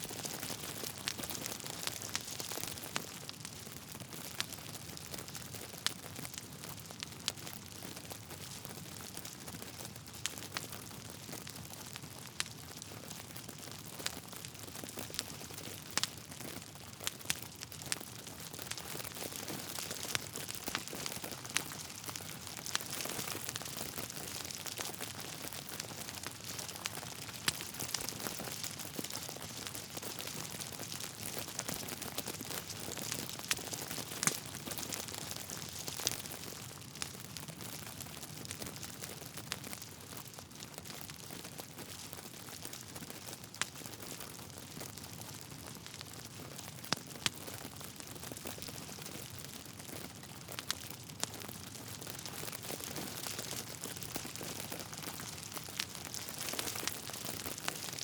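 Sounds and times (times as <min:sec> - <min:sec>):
logs crackling and popping: 0:00.0 - 0:58.0.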